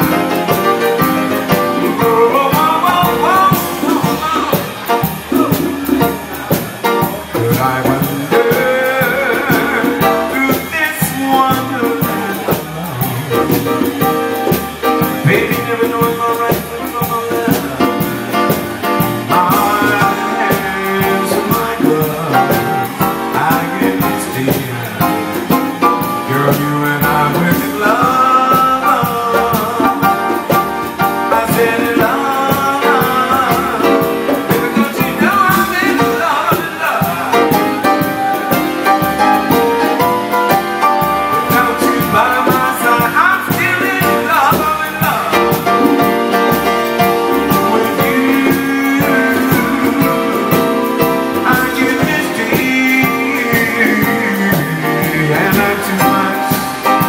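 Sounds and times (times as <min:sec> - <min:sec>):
congas: 0:00.0 - 0:57.0
drums: 0:00.0 - 0:57.0
keyboard: 0:00.0 - 0:57.0
man singing: 0:00.0 - 0:57.0.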